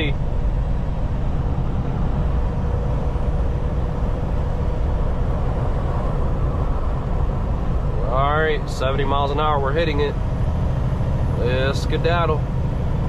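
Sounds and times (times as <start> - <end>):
diesel engine and road rumble: 0.0 - 13.0.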